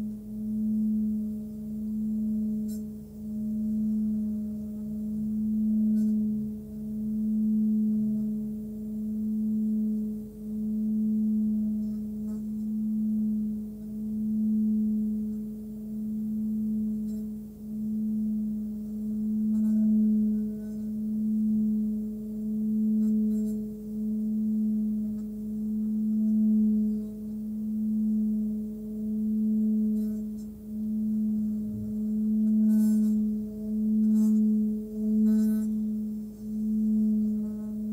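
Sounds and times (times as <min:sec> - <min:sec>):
singing bowl humming: 0:00.0 - 0:37.9.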